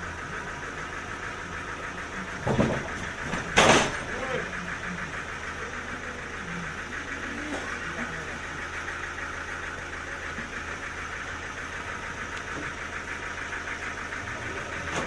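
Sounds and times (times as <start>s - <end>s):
engine running with pulsing hum: 0.0s - 15.0s.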